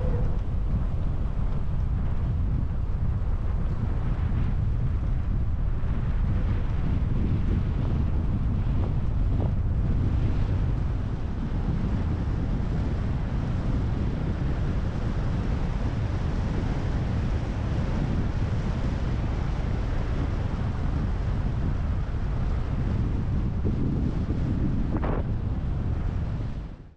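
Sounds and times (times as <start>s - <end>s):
steady wind: 0.0s - 26.9s
wind buffeting microphone: 0.0s - 26.9s.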